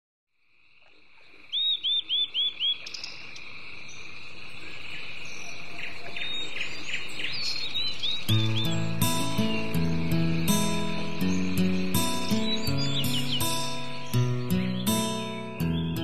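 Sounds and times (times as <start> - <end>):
birds calling: 1.2 - 16.0
high insect drone: 2.5 - 15.6.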